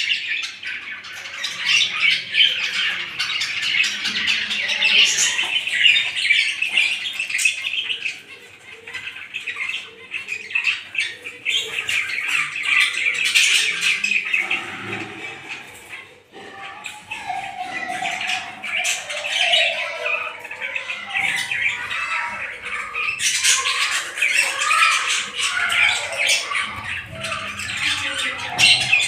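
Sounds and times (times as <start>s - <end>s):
budgerigars chattering and chirping: 0.0s - 29.0s.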